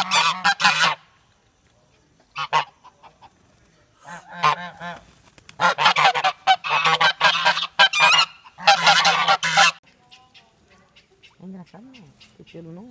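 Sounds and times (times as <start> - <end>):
geese honking: 0.0 - 1.2, 2.2 - 12.9.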